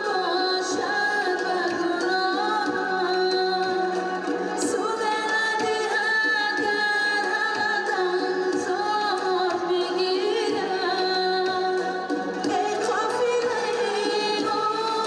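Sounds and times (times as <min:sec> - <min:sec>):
drum steady beat: 0:00.0 - 0:15.0
keyboard: 0:00.0 - 0:15.0
woman singing into a microphone: 0:00.0 - 0:15.0.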